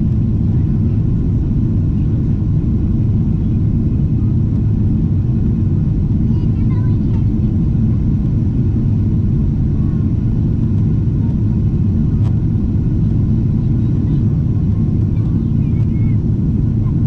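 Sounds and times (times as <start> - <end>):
airliner engine and air noise: 0.0 - 17.0.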